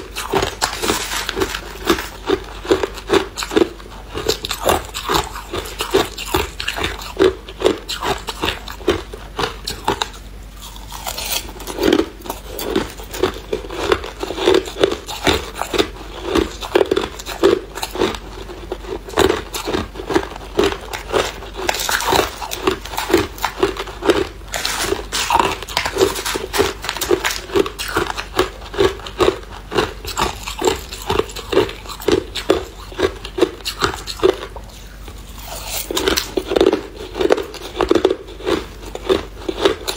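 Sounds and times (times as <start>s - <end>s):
ice being chewed and crunched: 0.0s - 39.9s.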